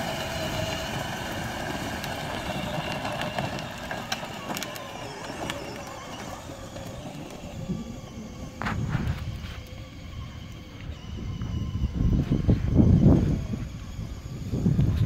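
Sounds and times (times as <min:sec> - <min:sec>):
electric toy car motor whine: 0:00.0 - 0:15.0
tyre noise: 0:00.0 - 0:15.0.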